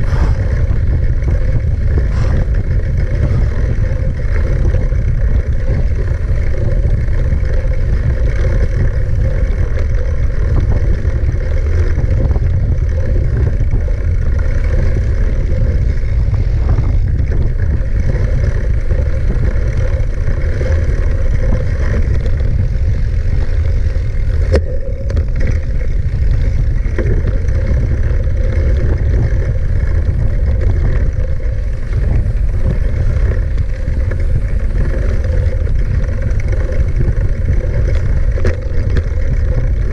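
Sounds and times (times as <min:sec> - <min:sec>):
wind and ride rumble: 0:00.0 - 0:39.9.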